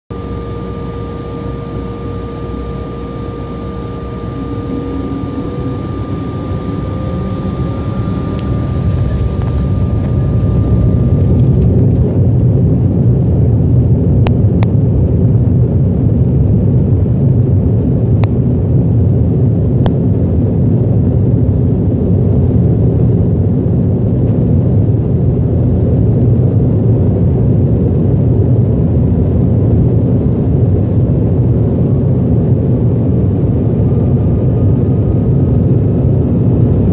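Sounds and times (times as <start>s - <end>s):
jet engines whining and rumbling: 0.1s - 36.9s.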